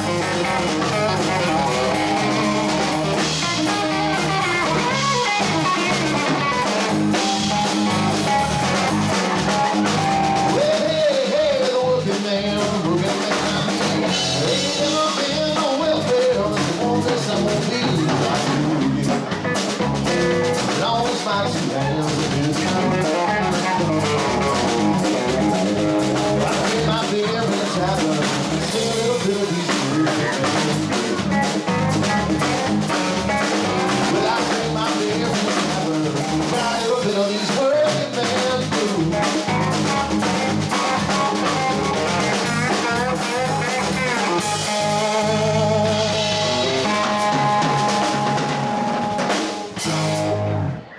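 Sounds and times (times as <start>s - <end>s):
person singing: 0.0s - 19.5s, 20.6s - 49.3s
bass guitar: 0.0s - 50.9s
drum kit beat: 0.0s - 50.9s
electric guitar: 0.0s - 50.9s.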